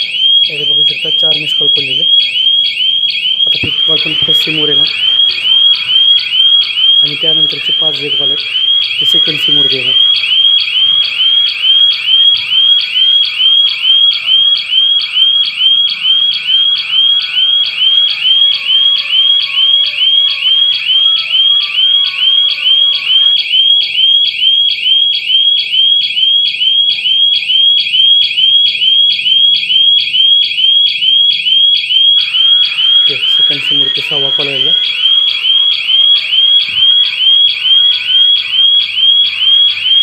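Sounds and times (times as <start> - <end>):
burglar alarm siren chirping: 0.0 - 40.0.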